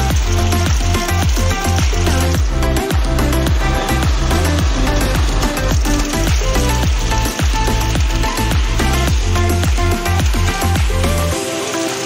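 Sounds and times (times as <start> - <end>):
thumping kick drum: 0.0 - 11.0
sustained bass line: 0.0 - 11.4
electronic dance music: 0.0 - 12.0.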